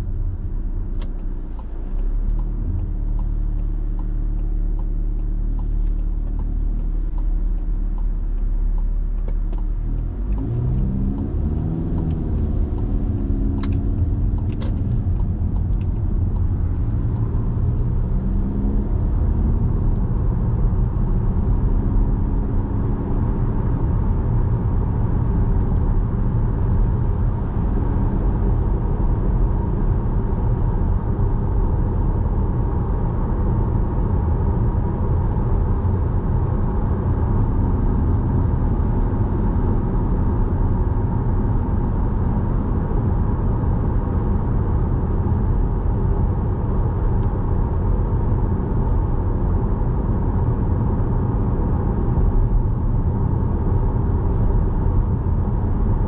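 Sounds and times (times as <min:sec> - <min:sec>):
car rumble on wet road: 0:00.0 - 0:56.0.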